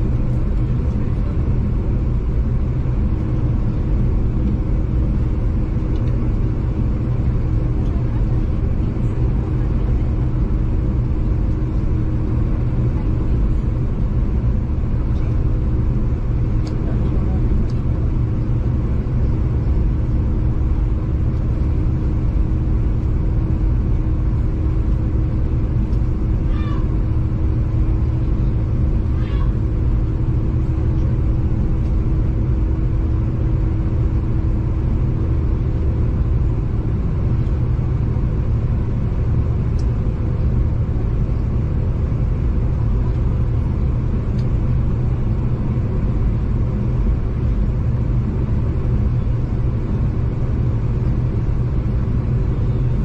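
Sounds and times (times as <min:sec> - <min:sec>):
steady hum: 0:00.0 - 0:53.0
train rumbling: 0:00.0 - 0:53.0.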